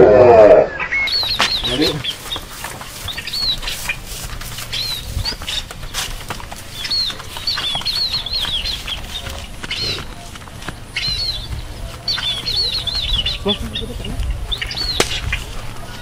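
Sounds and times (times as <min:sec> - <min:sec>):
small birds chirping: 0:00.6 - 0:16.0.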